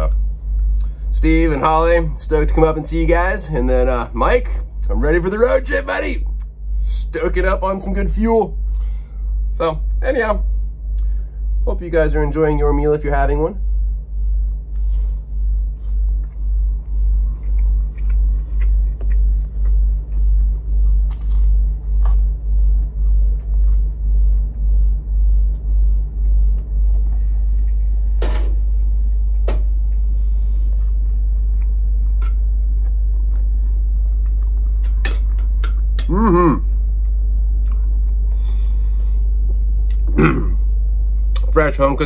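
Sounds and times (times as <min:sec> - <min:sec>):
low rumbling hum: 0:00.0 - 0:42.0.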